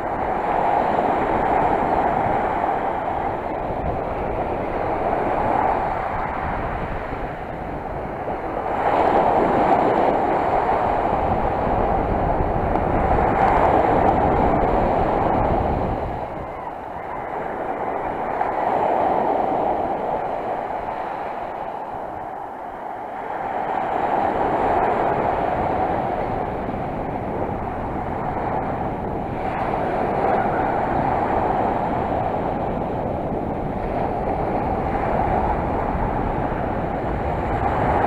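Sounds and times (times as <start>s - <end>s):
sea surf washing ashore: 0.0s - 38.0s.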